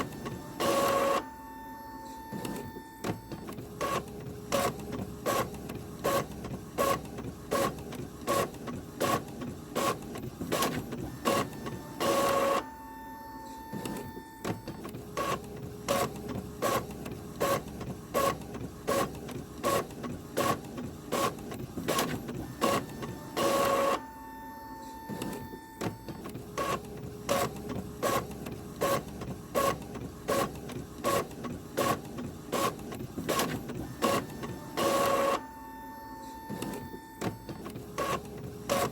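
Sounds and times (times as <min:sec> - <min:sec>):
printer whirring: 0:00.0 - 0:38.9
printer mechanical clicks: 0:02.2 - 0:12.6, 0:13.6 - 0:24.0, 0:25.0 - 0:35.5, 0:36.2 - 0:38.9.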